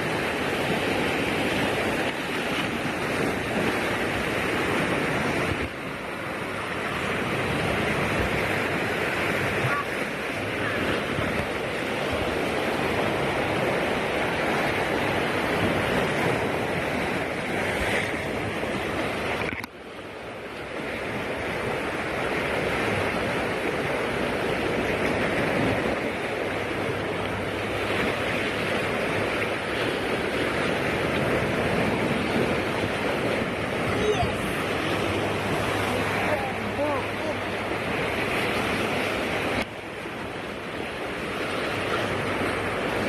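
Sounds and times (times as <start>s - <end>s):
surf breaking on shore: 0.0s - 19.7s, 20.4s - 43.0s.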